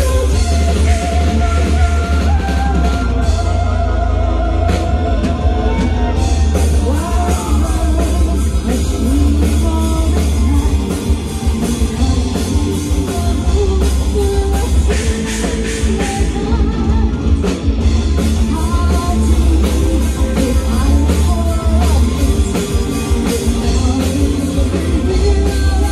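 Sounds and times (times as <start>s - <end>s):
bass guitar: 0.0s - 25.9s
distorted electric guitars: 0.0s - 25.9s
drum kit with cymbal hits: 0.0s - 25.9s
woman singing lead: 0.0s - 25.9s.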